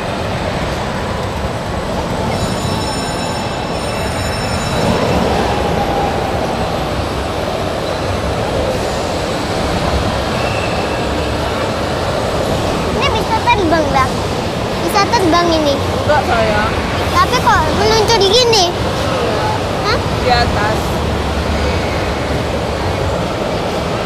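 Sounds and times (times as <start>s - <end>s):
ride machinery rumbling: 0.0s - 24.0s.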